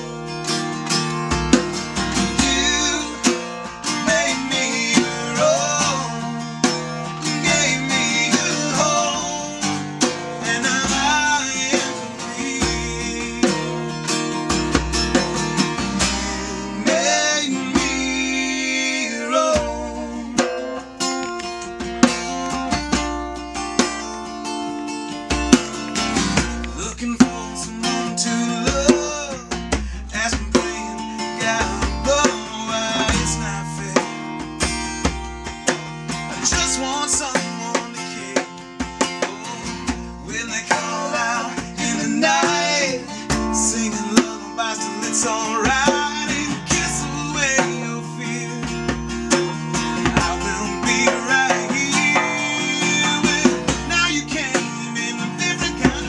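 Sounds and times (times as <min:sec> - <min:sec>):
band playing guitar-led song: 0:00.0 - 0:56.0.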